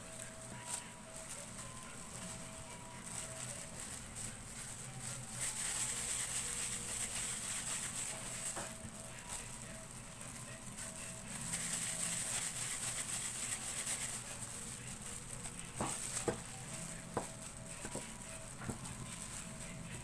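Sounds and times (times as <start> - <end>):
plastic gloves rustling: 0.0 - 20.0.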